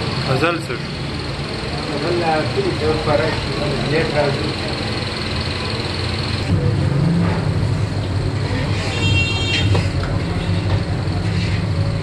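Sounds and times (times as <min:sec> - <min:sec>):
low engine tone: 0:00.0 - 0:12.0
traffic and running engines: 0:00.0 - 0:12.0.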